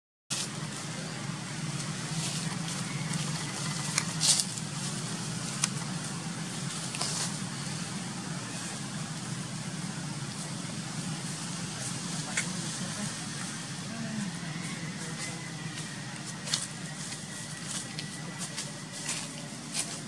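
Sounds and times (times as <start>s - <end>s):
low outdoor rumble: 0.3s - 20.0s.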